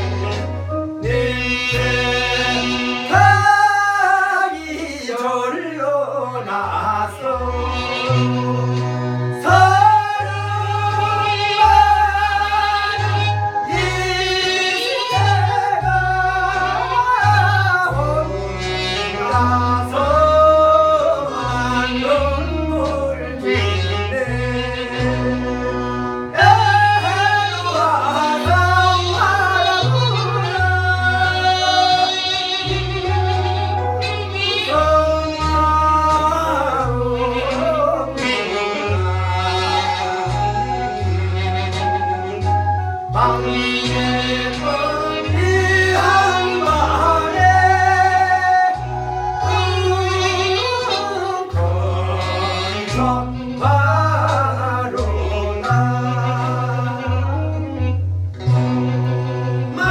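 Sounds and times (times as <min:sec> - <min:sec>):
person singing with ornamented voice: 0:00.0 - 0:57.9
sustained bass line: 0:00.0 - 0:59.9.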